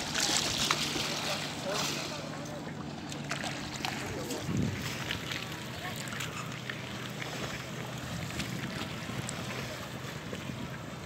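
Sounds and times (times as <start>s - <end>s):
ferry engine humming: 0.0s - 11.0s
faint murmur of voices: 0.9s - 10.9s.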